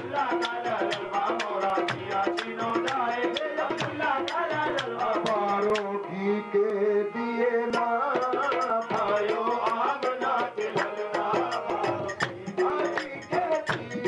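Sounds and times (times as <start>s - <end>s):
tabla strokes: 0.0s - 6.1s, 7.7s - 14.0s.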